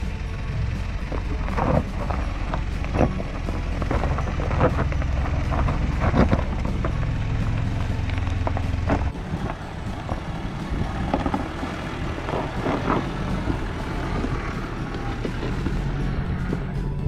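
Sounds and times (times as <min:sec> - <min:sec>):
low engine drone: 0:00.0 - 0:17.0
tyres crunching over rocks: 0:00.7 - 0:16.8.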